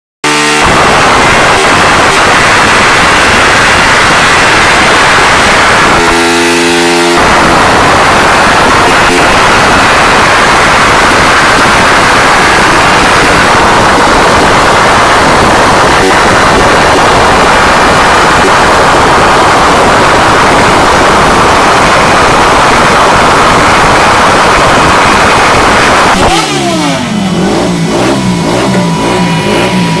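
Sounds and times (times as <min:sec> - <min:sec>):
motorcycle engine revving hard: 0:00.2 - 0:30.0.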